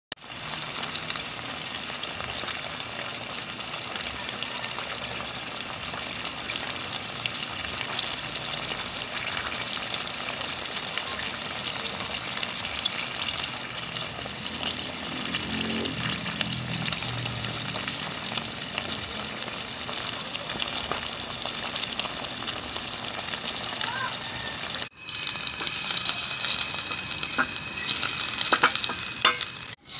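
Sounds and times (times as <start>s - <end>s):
food sizzling in a pot: 0.1s - 29.9s.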